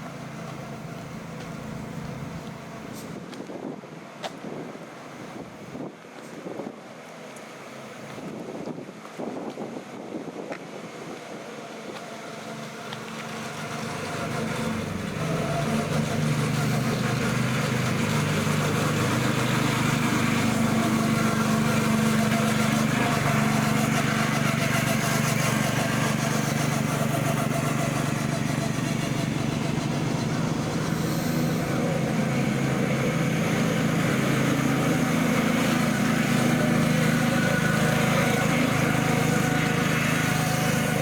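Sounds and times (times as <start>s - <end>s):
vehicle engine hum: 0.0s - 41.0s.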